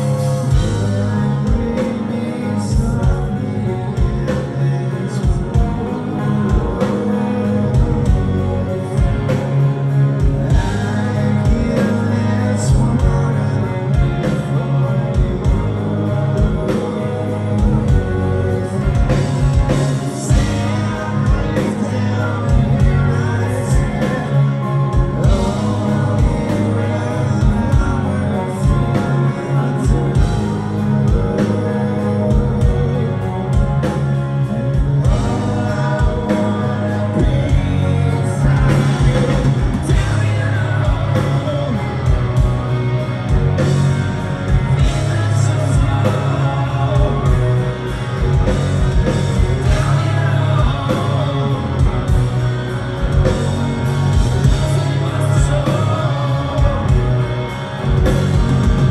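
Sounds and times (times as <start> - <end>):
man singing: 0.0 - 58.9
rock band playing: 0.0 - 58.9.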